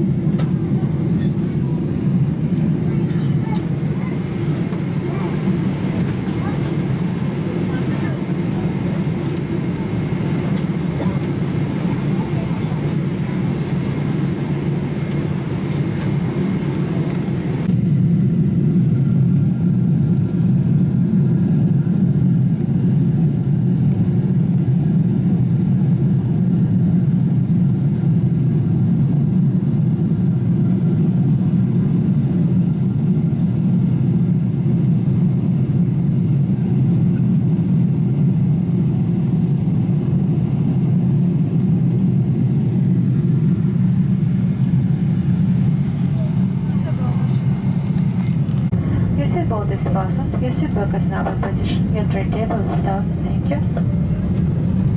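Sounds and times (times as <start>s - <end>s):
jet engine drone: 0.0s - 54.9s.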